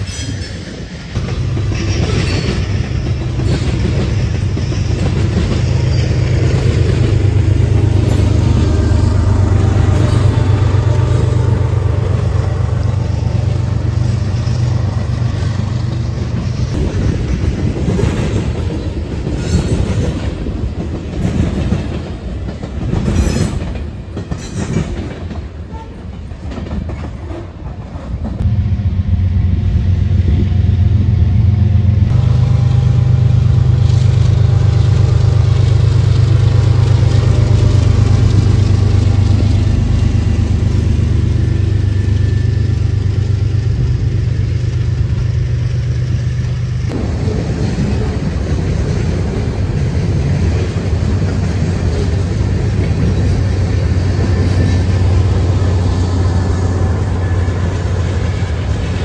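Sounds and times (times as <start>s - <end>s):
train wheels clattering: 0.0s - 28.4s, 34.1s - 59.0s
diesel locomotive engine drone: 0.0s - 59.0s.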